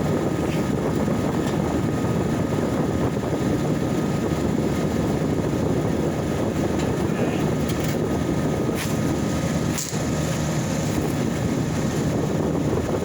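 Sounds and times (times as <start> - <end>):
dehumidifier fan air rush: 0.0 - 13.0.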